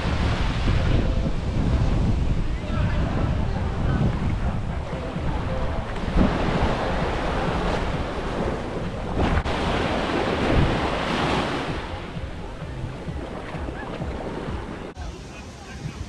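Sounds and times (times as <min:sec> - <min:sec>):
ocean waves: 0:00.0 - 0:16.0
wind buffeting microphone: 0:00.0 - 0:16.0.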